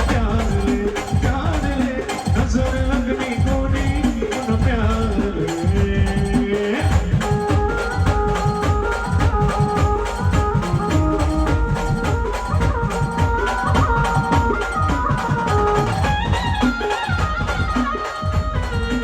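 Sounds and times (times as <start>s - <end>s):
fast drum beat: 0.0s - 19.0s.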